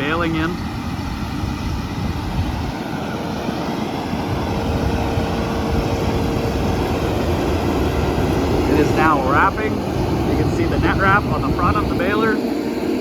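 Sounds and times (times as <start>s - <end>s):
baler machinery noise: 0.0s - 13.0s
thin steady whine: 0.0s - 13.0s
tractor engine drone: 0.0s - 13.0s.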